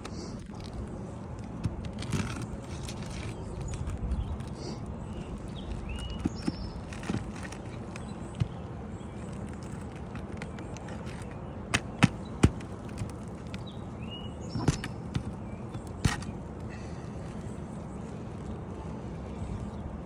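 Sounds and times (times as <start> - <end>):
outdoor background noise: 0.0 - 20.0
bird chirp: 2.2 - 20.0.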